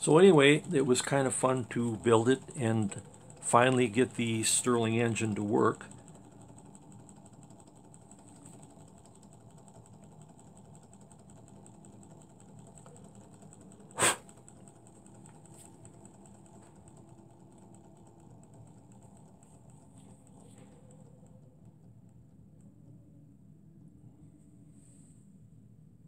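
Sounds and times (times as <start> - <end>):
model engine mechanical clatter: 0.0 - 21.8.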